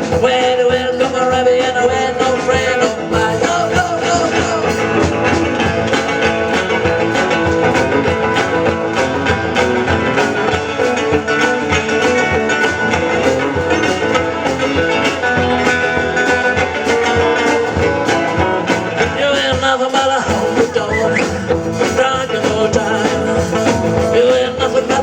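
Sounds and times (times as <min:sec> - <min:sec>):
lead guitar: 0:00.0 - 0:25.0
steady drum beat: 0:00.0 - 0:25.0.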